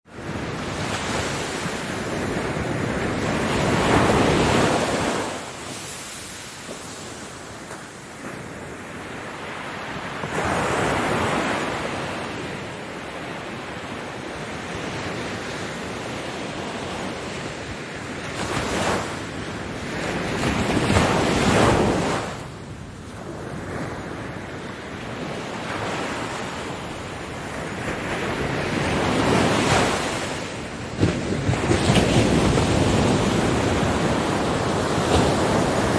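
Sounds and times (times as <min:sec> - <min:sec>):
ocean waves breaking on shore: 0:00.1 - 0:35.9.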